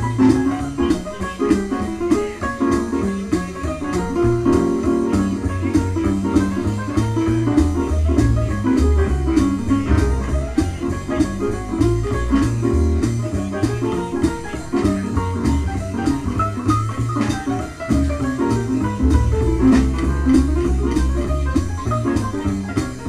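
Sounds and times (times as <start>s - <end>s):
double bass line: 0.0s - 23.0s
piano: 0.0s - 23.0s.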